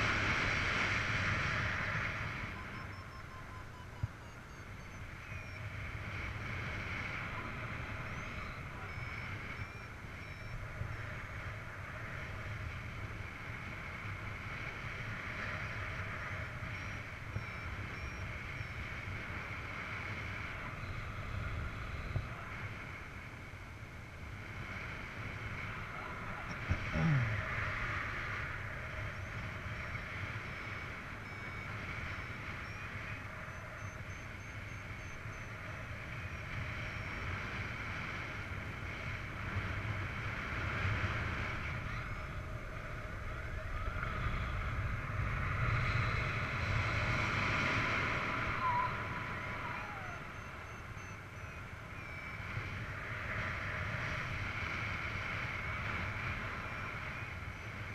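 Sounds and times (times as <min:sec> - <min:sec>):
wind noise over camera: 0:00.0 - 0:57.9.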